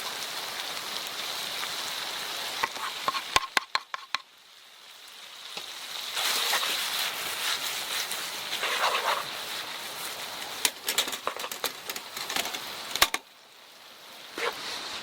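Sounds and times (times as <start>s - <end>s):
food sizzling: 0.0s - 15.0s
wood fire crackling: 0.0s - 15.0s.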